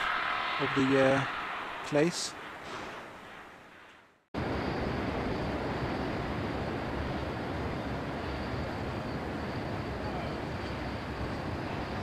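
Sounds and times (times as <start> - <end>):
distant traffic hum: 0.0 - 12.0
faint high whine: 0.0 - 12.0.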